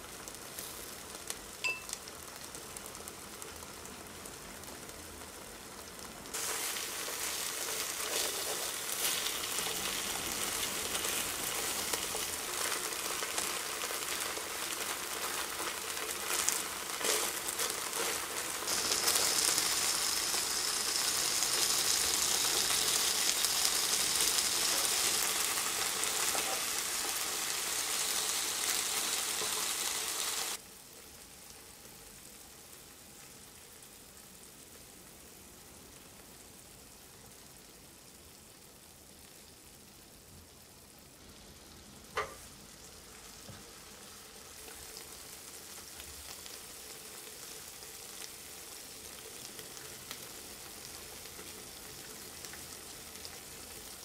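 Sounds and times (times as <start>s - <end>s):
meat sizzling in a frying pan: 0.0s - 54.0s.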